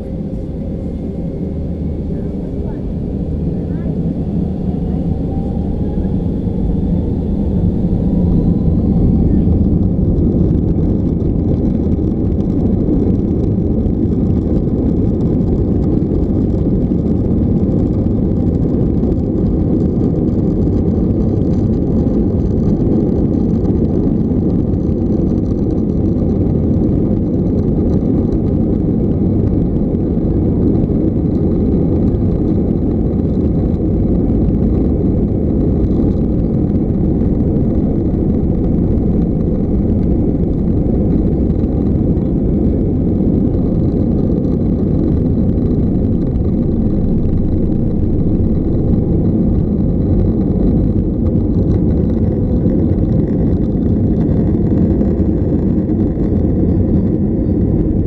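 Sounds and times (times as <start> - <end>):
aircraft cabin engine rumble: 0.0 - 58.0.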